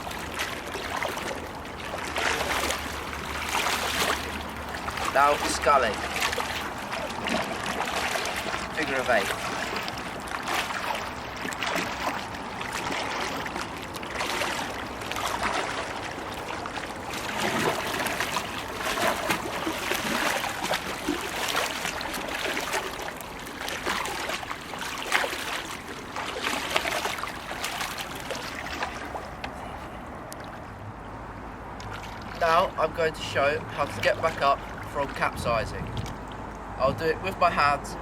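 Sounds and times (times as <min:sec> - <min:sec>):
water dribbling off paddle: 0:00.0 - 0:30.7, 0:31.7 - 0:36.7
paddle sculling through water: 0:00.0 - 0:30.8, 0:31.7 - 0:32.7, 0:33.3 - 0:36.6.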